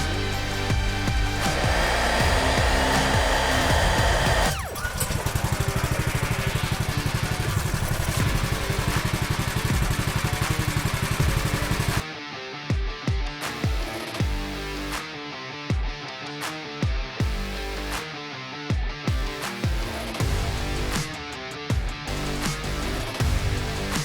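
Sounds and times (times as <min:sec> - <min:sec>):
rock music with distorted guitar: 0:00.0 - 0:24.0.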